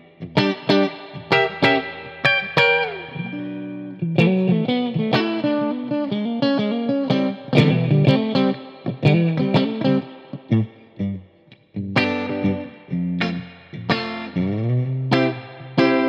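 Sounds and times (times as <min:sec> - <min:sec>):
clean electric guitar playing: 0:00.0 - 0:16.0.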